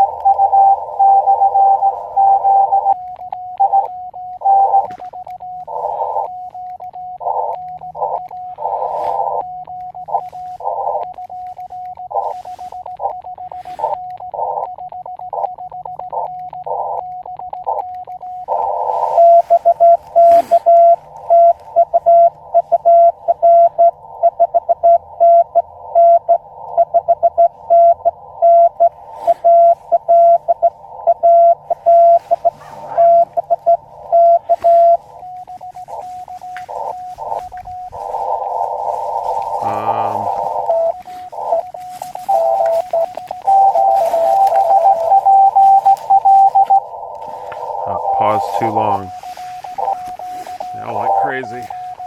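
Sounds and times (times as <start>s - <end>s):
many stations keying morse: 0.0s - 52.0s
morse code tones: 0.0s - 52.0s.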